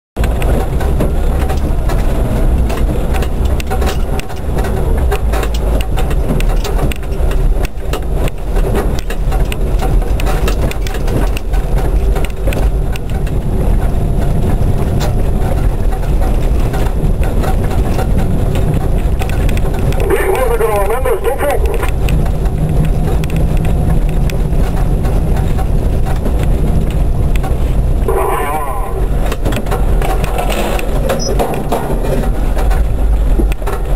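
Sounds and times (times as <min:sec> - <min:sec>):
car knocks and rattles: 0:00.2 - 0:20.2, 0:21.7 - 0:28.1, 0:29.0 - 0:33.9
car engine and tyre rumble: 0:00.2 - 0:33.9.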